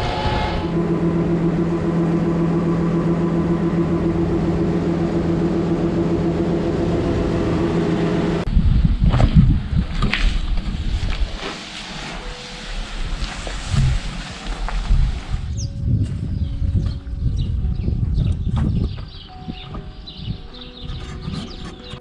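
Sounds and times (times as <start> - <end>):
combine harvester droning: 0.0 - 22.0
wind buffeting microphone: 0.0 - 22.0.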